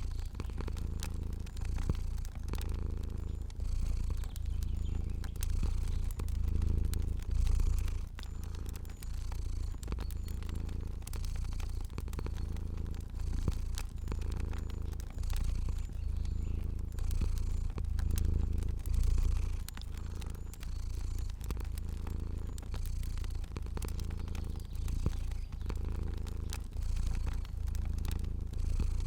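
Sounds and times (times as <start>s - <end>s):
cat purring: 0.0s - 29.0s
fire crackling: 0.0s - 29.0s.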